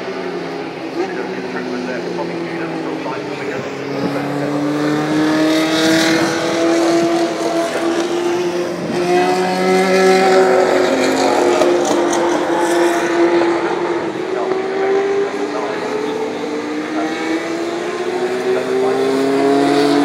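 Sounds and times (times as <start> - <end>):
racing cars passing at high revs: 0.0 - 20.0.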